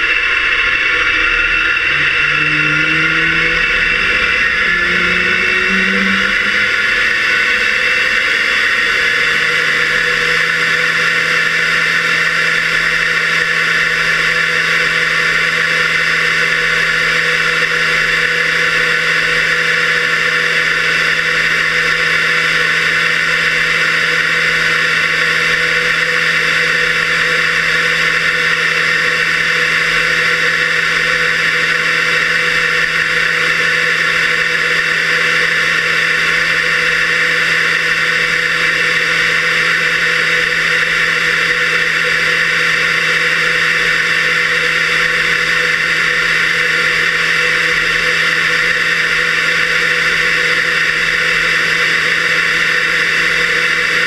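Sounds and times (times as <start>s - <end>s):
muffled jet engine whine: 0.0s - 54.0s.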